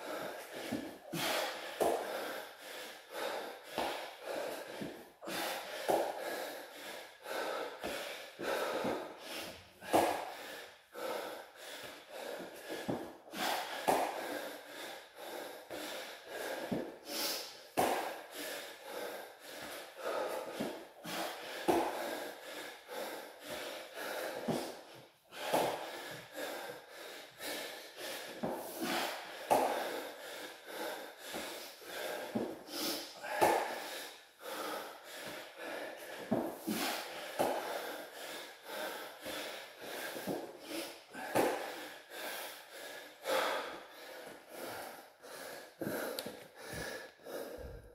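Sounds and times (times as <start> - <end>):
man breathing hard: 0.0 - 47.9.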